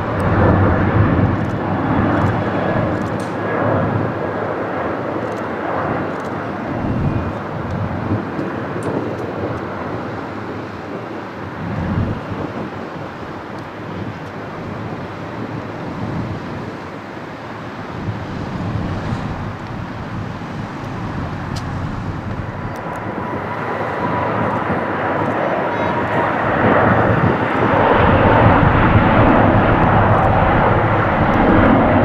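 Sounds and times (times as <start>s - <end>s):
distant jet engine roar: 0.0s - 32.0s
jet roar with whine: 0.0s - 32.0s
wind buffeting microphone: 0.0s - 32.0s.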